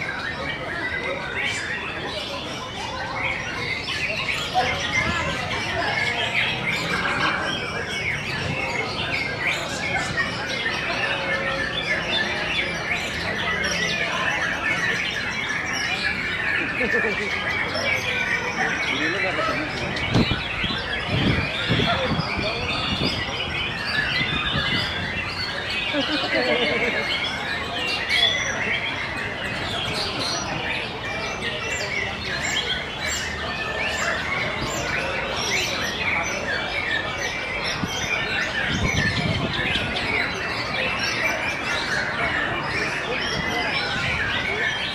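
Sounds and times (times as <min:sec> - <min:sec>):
chorus of birds whistling: 0:00.0 - 0:44.9.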